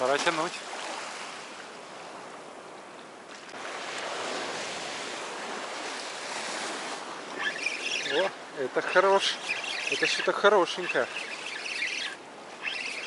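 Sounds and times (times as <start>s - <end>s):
waves washing on shore: 0.0s - 2.7s, 3.3s - 13.0s.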